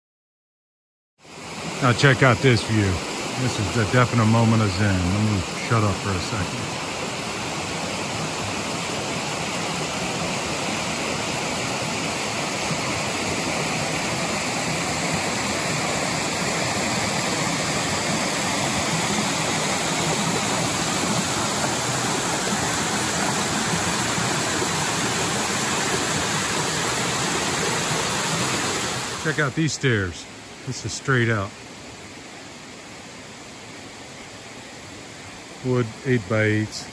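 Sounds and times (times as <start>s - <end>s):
water rushing over rocks: 1.2s - 36.9s.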